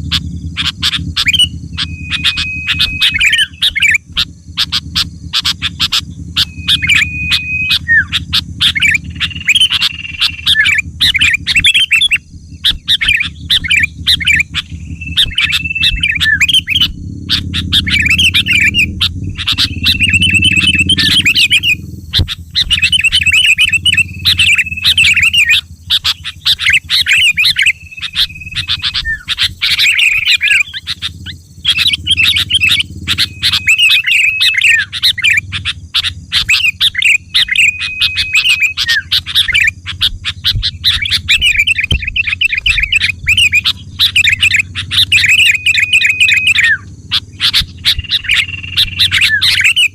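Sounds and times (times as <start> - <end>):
bird chattering chirps and whistles: 0.0 - 49.9
steady low rumble: 0.0 - 49.9.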